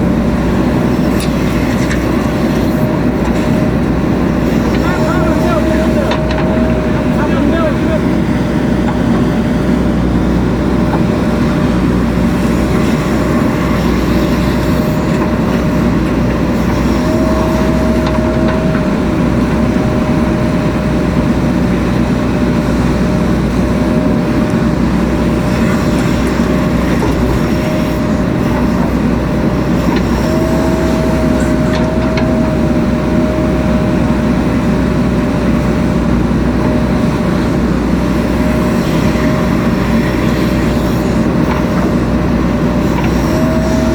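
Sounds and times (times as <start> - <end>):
diesel engine running under load: 0.0 - 43.9
high whine: 0.0 - 43.9.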